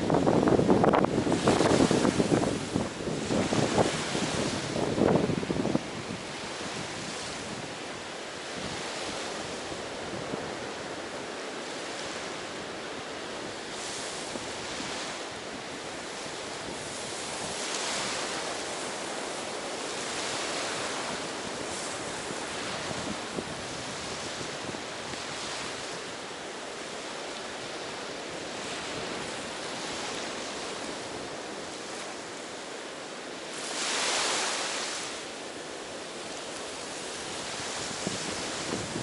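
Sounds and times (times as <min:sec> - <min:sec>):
ocean surf washing onto beach: 0:00.0 - 0:39.0.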